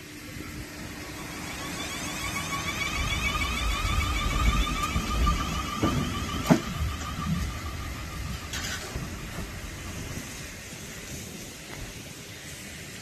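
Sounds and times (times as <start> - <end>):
electric train traction whine: 0.0 - 13.0
train wheels rumbling: 0.0 - 13.0.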